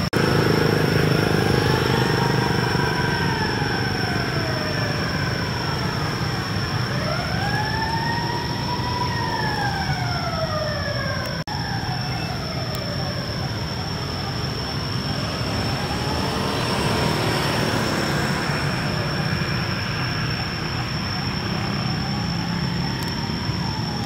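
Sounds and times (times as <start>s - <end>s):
siren wailing: 0.0s - 24.0s
traffic rumble: 0.0s - 24.0s.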